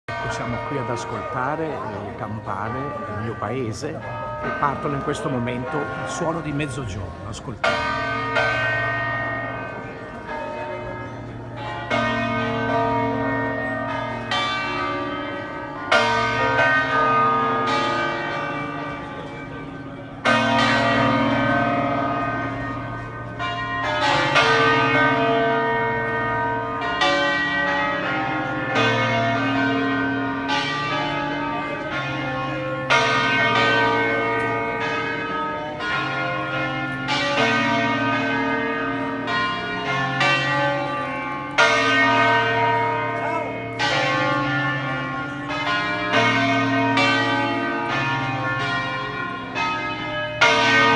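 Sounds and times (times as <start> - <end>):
church bells ringing: 0.1 - 50.9.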